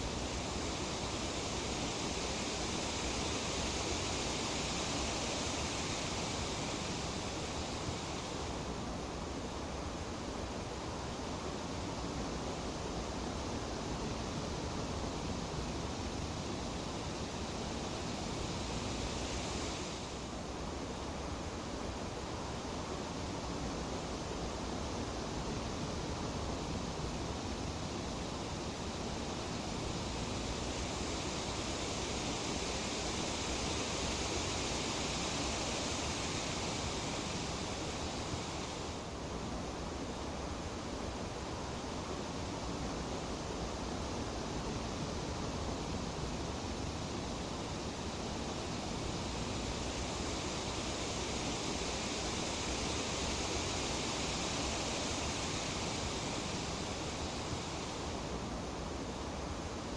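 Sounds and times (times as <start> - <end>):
leaves rustling in breeze: 0.0 - 59.9.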